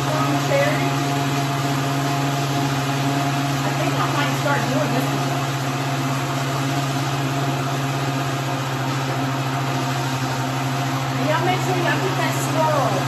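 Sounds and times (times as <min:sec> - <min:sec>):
blender motor running: 0:00.0 - 0:13.0.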